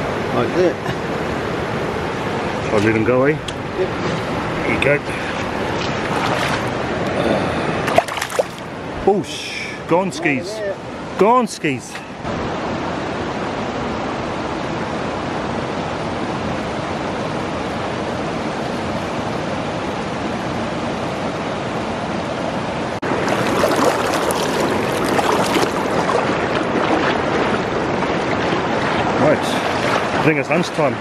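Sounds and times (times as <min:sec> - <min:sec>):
river water rushing over stones: 0:00.0 - 0:31.0.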